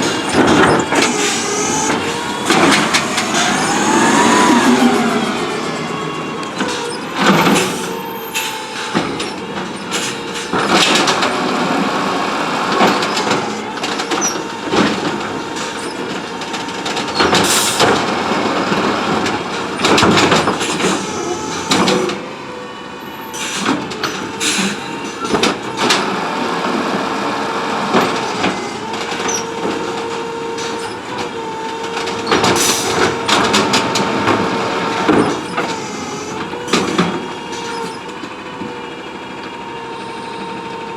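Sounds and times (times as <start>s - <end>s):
garbage truck engine running: 0.0s - 40.9s
hydraulic whine: 0.0s - 40.9s.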